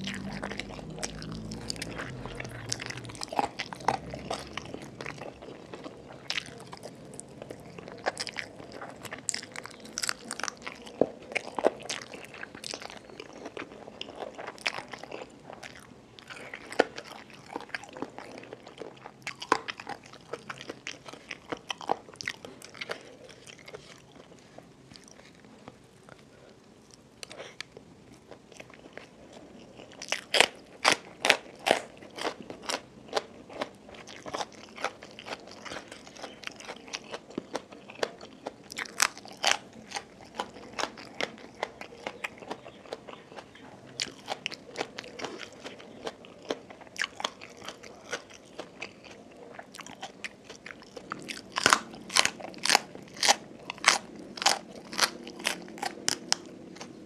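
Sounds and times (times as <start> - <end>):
crunchy food chewing: 0.0 - 57.0
soft chewing: 0.0 - 57.0.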